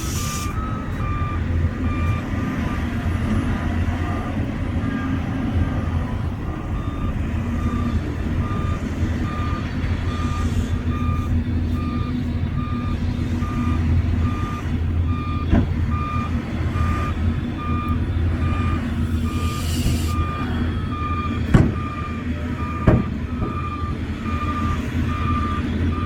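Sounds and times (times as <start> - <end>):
reversing alarm beeping: 0.0 - 2.9, 4.8 - 5.4, 6.6 - 26.0
diesel engine drone: 0.0 - 26.0.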